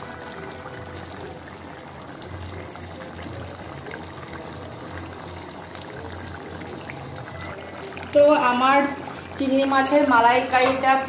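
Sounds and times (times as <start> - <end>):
curry bubbling in pan: 0.0 - 11.0.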